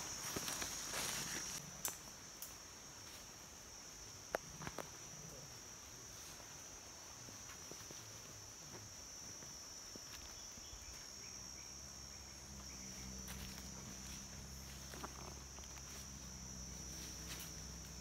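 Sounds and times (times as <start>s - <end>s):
forest insects droning: 0.0s - 18.0s.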